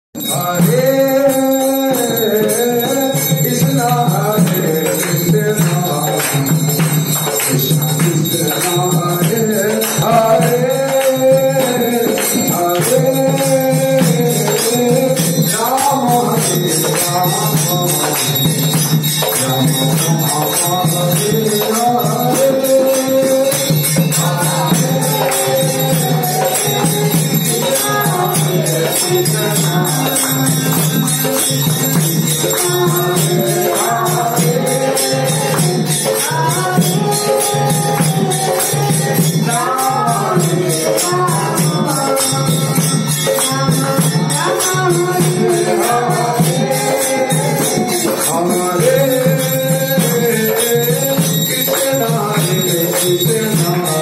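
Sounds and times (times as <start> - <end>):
drum beat: 0.2 - 54.0
jingling hand cymbals: 0.2 - 54.0
voices chanting call-and-response: 0.6 - 54.0.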